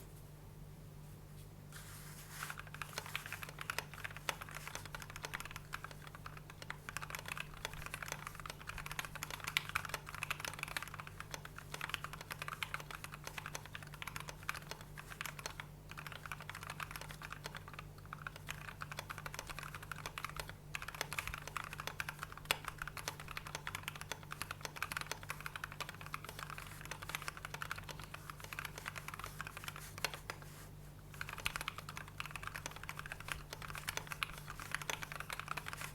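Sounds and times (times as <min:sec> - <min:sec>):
mechanical keyboard typing: 0:02.6 - 0:30.4, 0:31.1 - 0:35.9.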